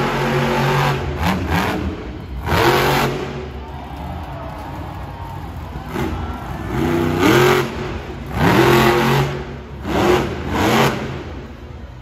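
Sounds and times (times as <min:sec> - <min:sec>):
truck engine revving: 0:00.0 - 0:03.7, 0:05.7 - 0:12.0.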